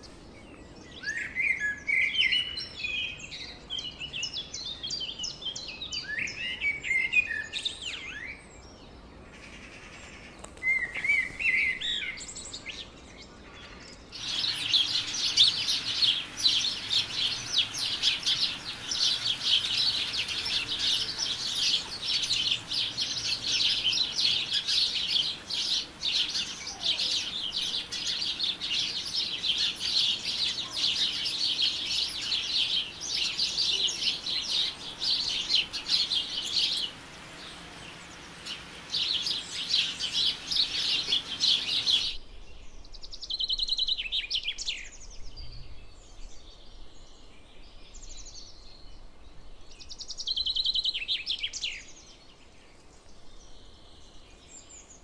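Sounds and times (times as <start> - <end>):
birds chirping in chorus: 0.0 - 55.0.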